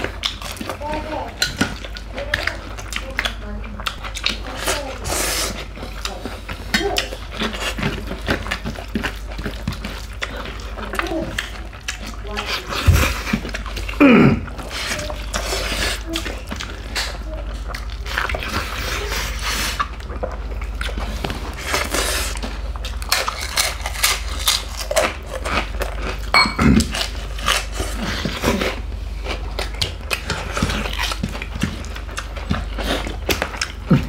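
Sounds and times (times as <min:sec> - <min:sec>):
chewing and lip-smacking: 0:00.0 - 0:34.0
steady low hum: 0:00.0 - 0:34.0.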